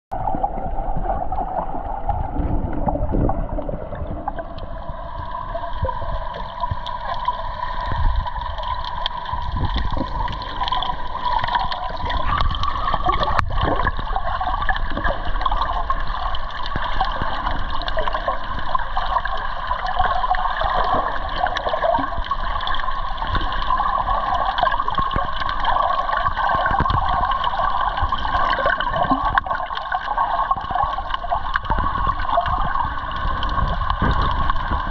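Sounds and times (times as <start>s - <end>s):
underwater gurgling water: 0.1s - 34.9s.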